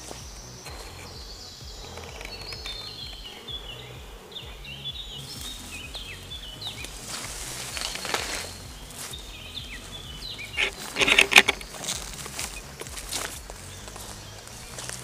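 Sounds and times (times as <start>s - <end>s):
footsteps on dry grass: 0.0s - 15.0s
high chirping calls: 0.0s - 15.0s
rustling through undergrowth: 0.0s - 15.0s.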